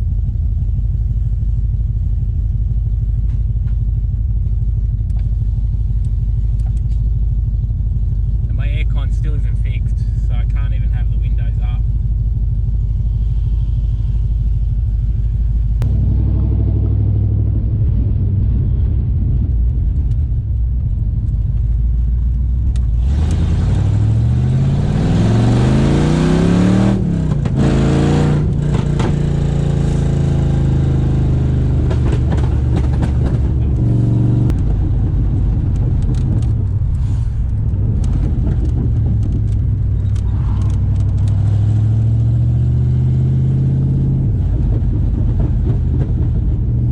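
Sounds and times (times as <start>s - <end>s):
car engine revving: 2.5s - 46.9s.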